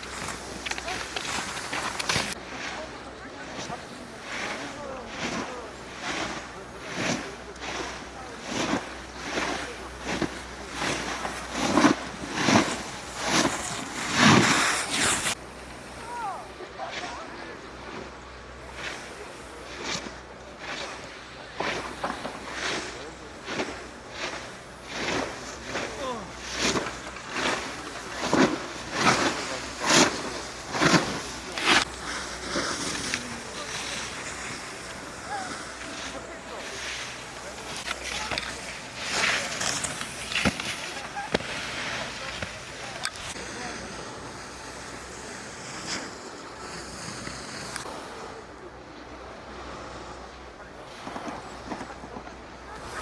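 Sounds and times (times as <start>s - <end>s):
skis swishing over snow: 0.0s - 15.4s, 16.0s - 49.0s, 49.6s - 53.0s.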